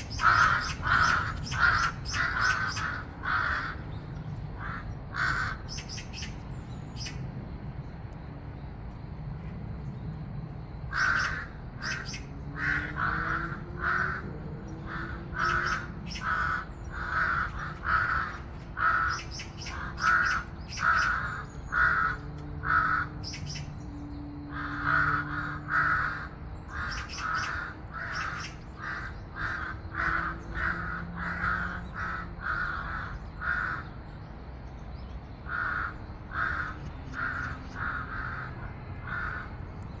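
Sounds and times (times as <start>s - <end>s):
crows cawing: 0.0s - 6.3s, 10.9s - 23.7s, 24.5s - 34.0s, 35.4s - 39.8s.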